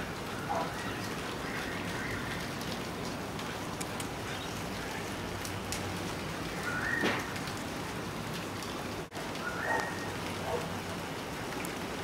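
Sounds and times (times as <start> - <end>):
steady rain falling: 0.0 - 12.0
light drip ticks: 0.2 - 12.0.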